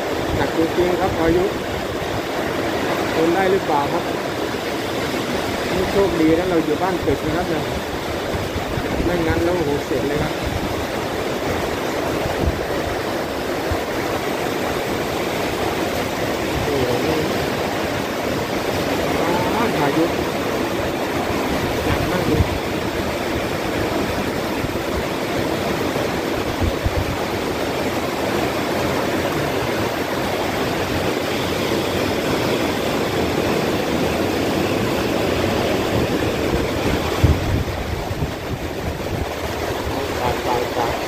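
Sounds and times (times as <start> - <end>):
torrential rain: 0.0 - 41.0
wind gusts buffeting microphone: 0.0 - 41.0.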